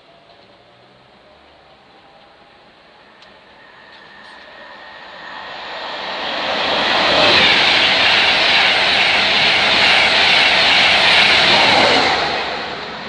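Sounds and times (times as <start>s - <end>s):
train passing at speed: 0.0s - 13.0s.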